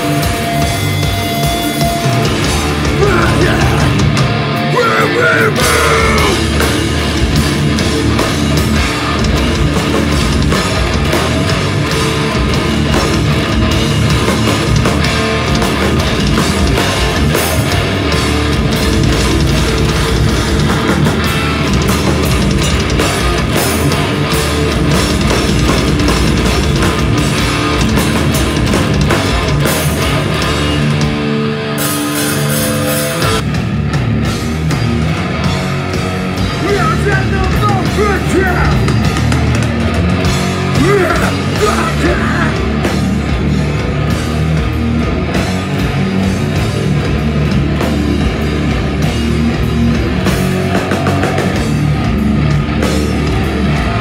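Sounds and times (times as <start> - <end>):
bass: 0.0 - 54.0
distorted electric guitars: 0.0 - 54.0
drums: 0.0 - 54.0.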